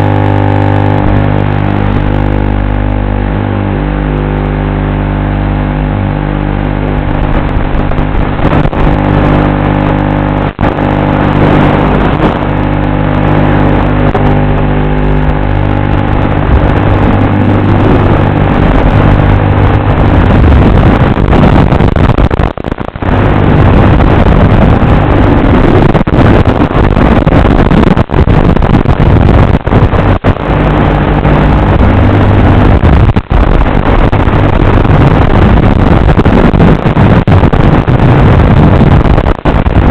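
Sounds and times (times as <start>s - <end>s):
rushing air: 0.0s - 39.9s.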